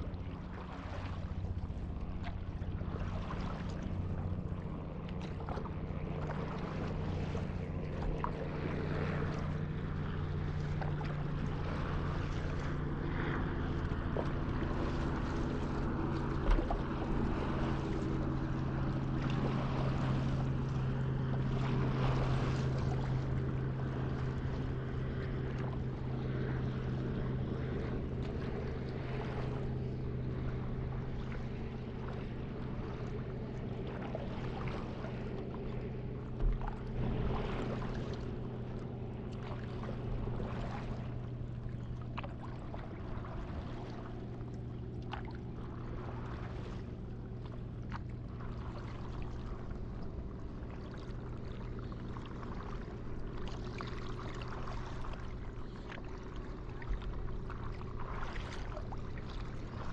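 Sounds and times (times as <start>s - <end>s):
steady low hum: 0.0s - 59.9s
water lapping and sloshing: 0.0s - 59.9s.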